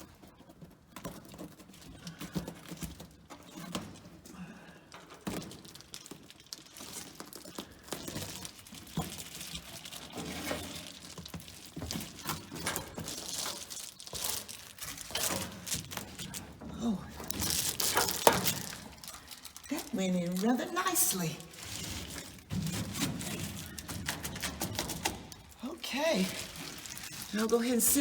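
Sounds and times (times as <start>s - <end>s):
insulation sheet rustling and crinkling: 0.0s - 28.0s.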